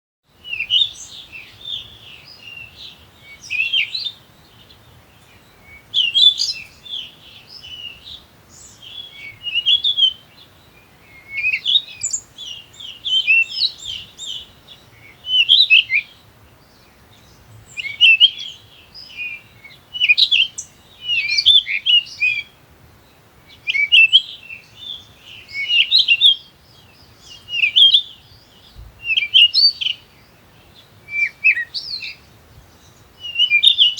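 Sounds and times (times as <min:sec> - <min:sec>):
small bird chirping: 0:00.4 - 0:33.9.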